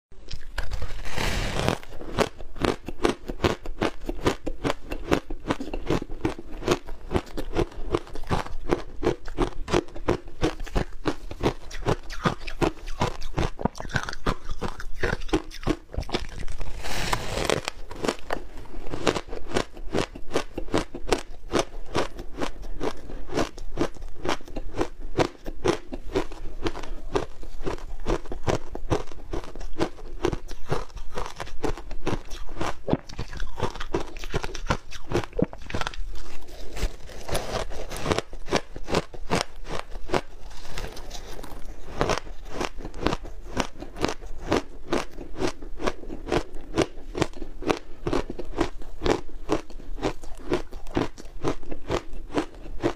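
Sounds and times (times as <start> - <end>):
shaved ice being chewed: 0.2 - 52.9.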